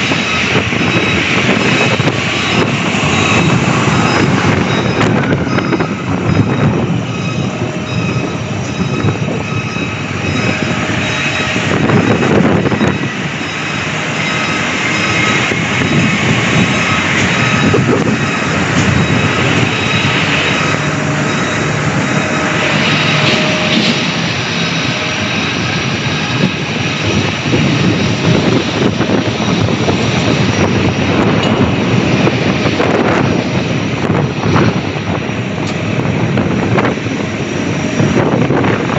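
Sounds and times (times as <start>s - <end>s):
airliner engines roaring: 0.0s - 38.9s
high engine whine: 0.0s - 38.9s.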